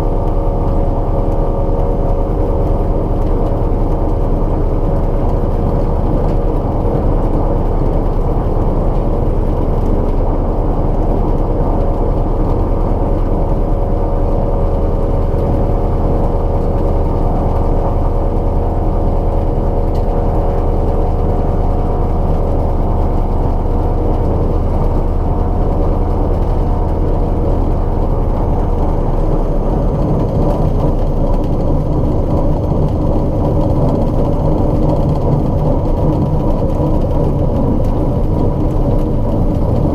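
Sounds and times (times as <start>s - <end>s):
light aircraft engine: 0.0s - 39.9s.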